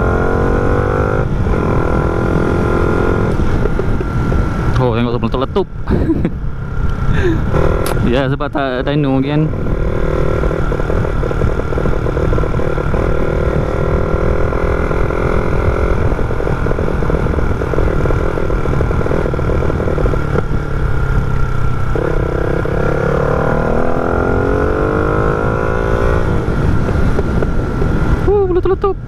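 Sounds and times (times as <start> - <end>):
small motorcycle engine revving: 0.0 - 4.8, 6.6 - 28.7.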